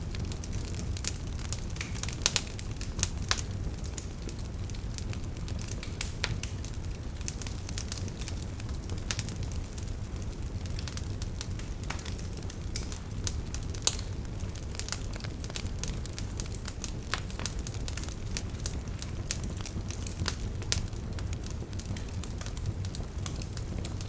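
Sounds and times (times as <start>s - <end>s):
campfire crackling and popping: 0.0s - 24.0s
low fire rumble: 0.0s - 24.0s.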